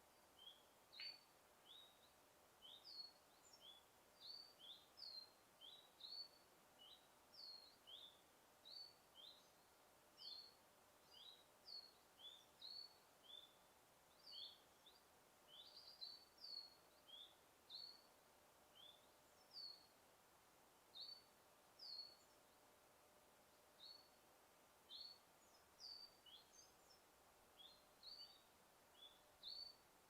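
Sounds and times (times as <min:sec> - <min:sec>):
bird chirping: 0:00.0 - 0:18.1, 0:18.7 - 0:20.0, 0:20.9 - 0:22.7, 0:23.5 - 0:24.2, 0:24.8 - 0:29.9
faint steady hiss: 0:00.0 - 0:30.0.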